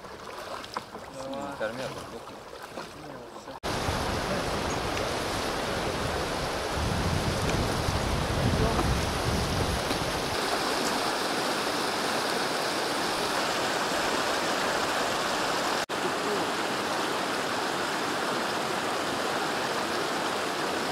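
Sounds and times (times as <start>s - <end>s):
river water rushing over stones: 0.0s - 20.9s.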